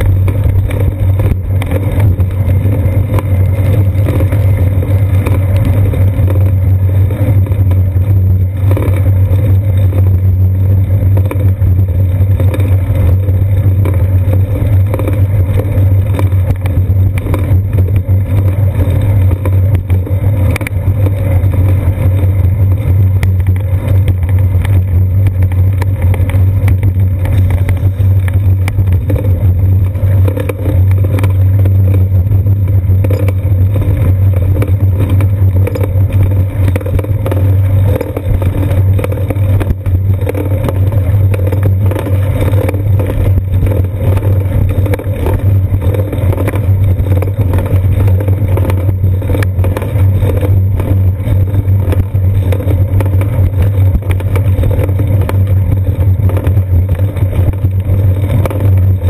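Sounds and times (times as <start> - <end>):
wind and road vibration rumble: 0.0 - 59.0.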